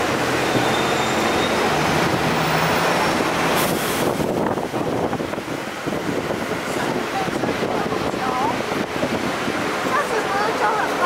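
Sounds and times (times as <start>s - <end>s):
tram rolling rumble: 0.0s - 11.0s.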